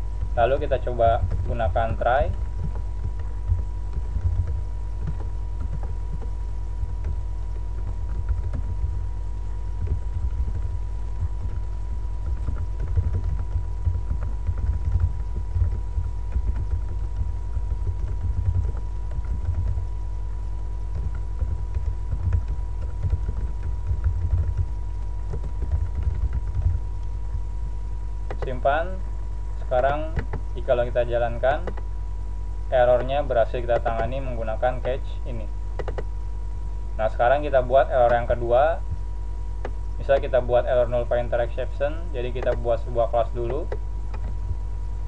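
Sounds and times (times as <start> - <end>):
computer keyboard typing: 0.0 - 28.9, 29.6 - 31.9, 32.8 - 35.0, 35.7 - 36.1, 37.1 - 39.0, 39.6 - 44.6
loud steady low hum: 0.0 - 45.0.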